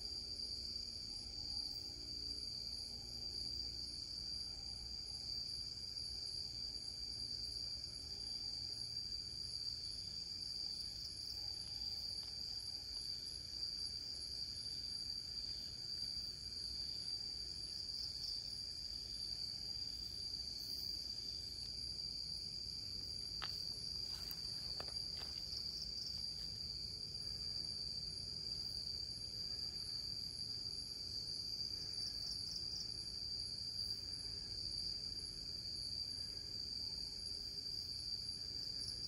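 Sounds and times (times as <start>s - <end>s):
insect chorus trilling: 0.0s - 39.0s.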